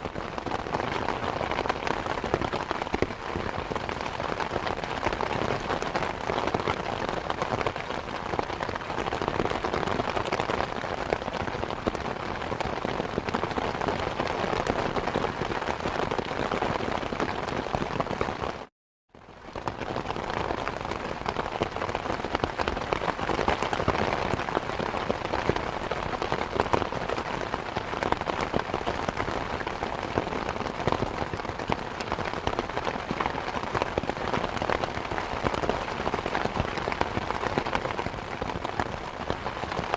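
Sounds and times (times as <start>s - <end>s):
rain drops striking a surface: 0.0s - 39.9s.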